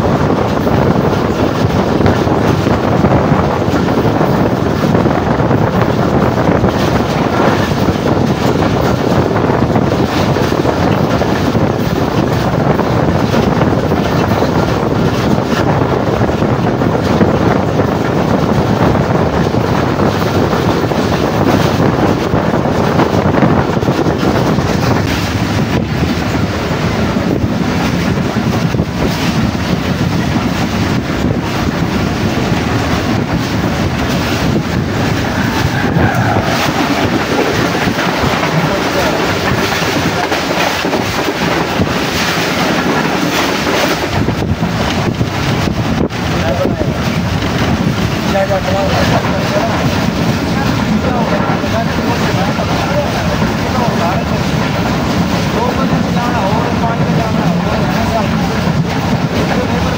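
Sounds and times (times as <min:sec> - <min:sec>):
rumble of wheels on rail: 0:00.0 - 0:59.9
wind rushing past microphone: 0:00.0 - 0:59.9.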